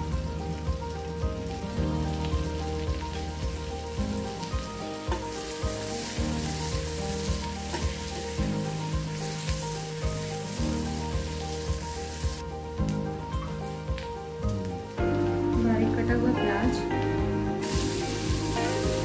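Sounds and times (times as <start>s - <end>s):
chillies sizzling in butter: 0.0s - 19.0s.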